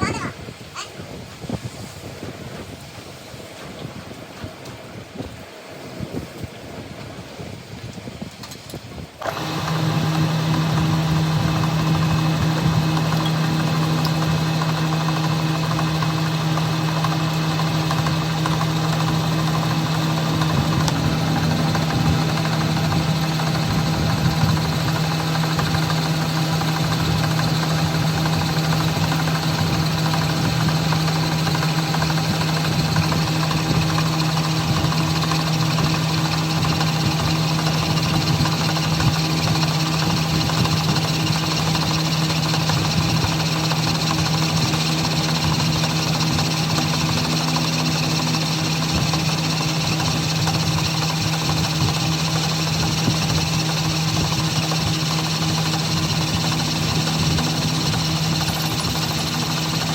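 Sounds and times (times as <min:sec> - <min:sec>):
machine humming and rattling: 0:00.0 - 0:59.9.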